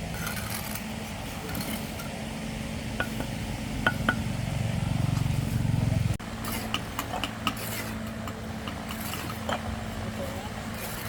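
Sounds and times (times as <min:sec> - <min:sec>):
motor pulsing rumble: 0:00.0 - 0:11.0.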